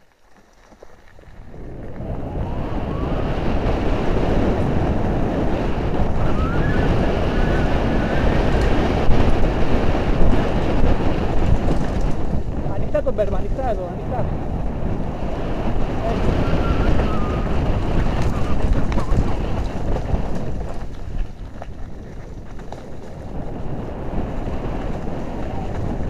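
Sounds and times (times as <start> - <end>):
bike tyres rumbling on dirt: 0.0 - 26.0
wind on microphone: 1.0 - 26.0.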